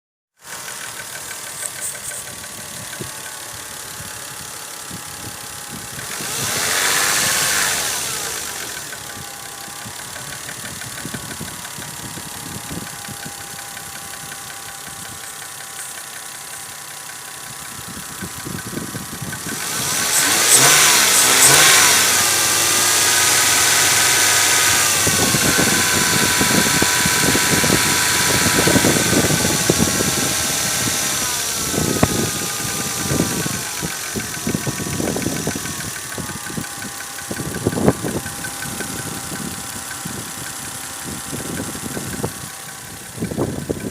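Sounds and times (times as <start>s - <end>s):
engine knocking: 0.4s - 43.9s
engine revving: 0.4s - 43.9s
petrol engine running: 0.4s - 43.9s.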